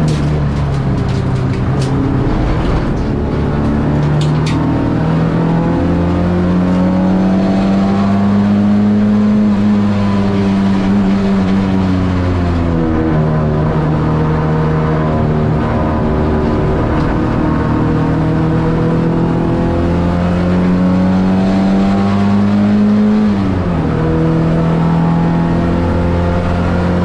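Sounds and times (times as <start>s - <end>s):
car engine running hard: 0.0s - 27.0s.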